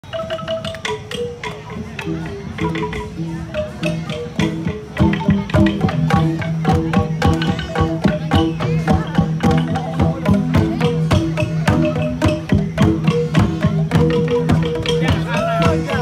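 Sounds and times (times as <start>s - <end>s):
gongs struck in fast rhythm: 0.0s - 16.0s.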